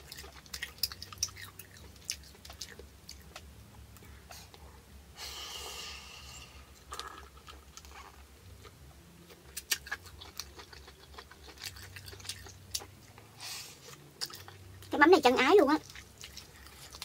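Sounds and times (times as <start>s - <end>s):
person chewing: 0.0s - 4.6s, 6.8s - 14.9s, 15.8s - 17.0s.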